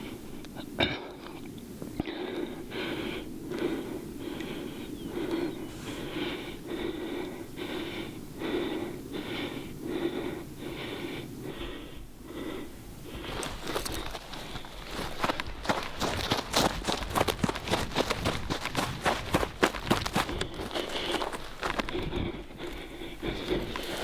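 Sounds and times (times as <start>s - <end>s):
person breathing hard: 0.0s - 24.0s.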